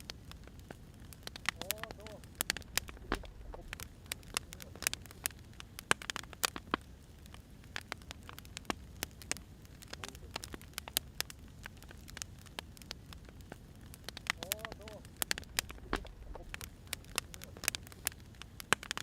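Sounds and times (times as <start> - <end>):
firewood crackling: 0.0 - 19.0.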